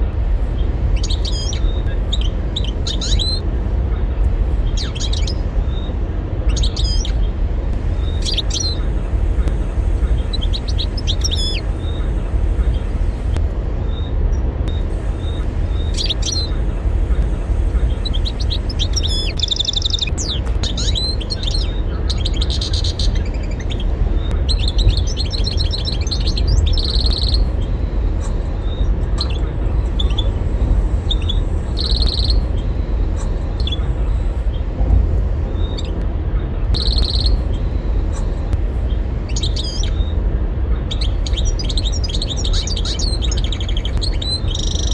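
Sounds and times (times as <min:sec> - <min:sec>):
steady low rumble: 0:00.0 - 0:44.9
goldfinch twittering song: 0:00.6 - 0:03.4, 0:04.6 - 0:07.3, 0:08.0 - 0:12.9, 0:14.7 - 0:16.7, 0:17.8 - 0:30.3, 0:31.0 - 0:34.7, 0:35.5 - 0:40.2, 0:40.8 - 0:44.9.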